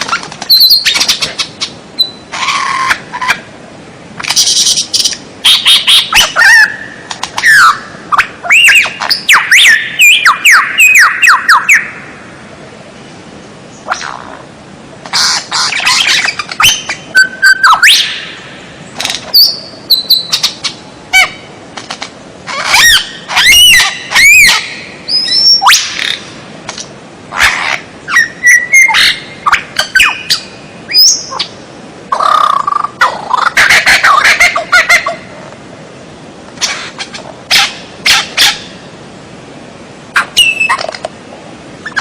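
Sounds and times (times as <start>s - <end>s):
songbird singing: 0.0s - 3.6s, 4.2s - 14.5s, 15.1s - 35.4s, 40.2s - 41.1s.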